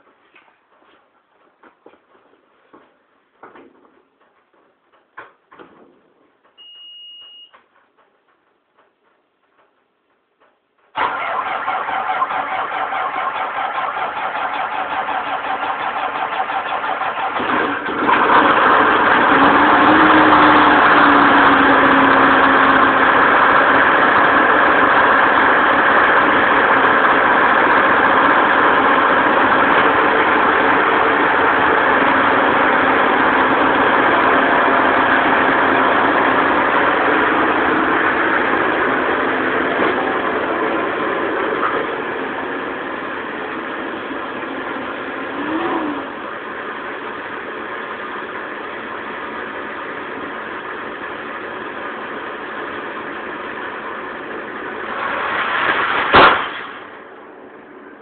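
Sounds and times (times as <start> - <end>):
diesel engine starting up: 11.0 - 57.5.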